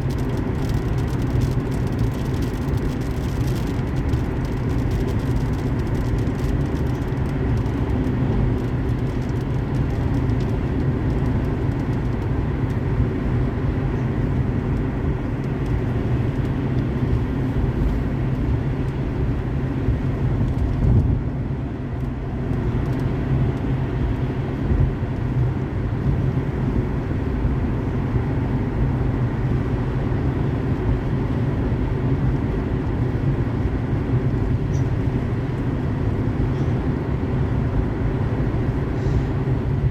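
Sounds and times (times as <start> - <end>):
car engine and tyres droning: 0.0 - 39.9.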